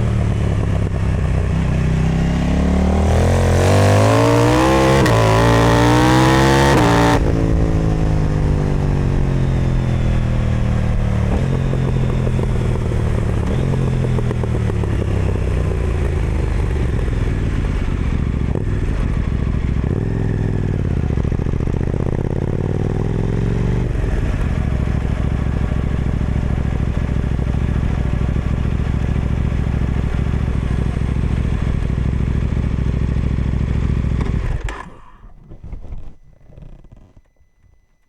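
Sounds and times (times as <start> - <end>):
motorcycle engine revving: 0.0 - 37.7.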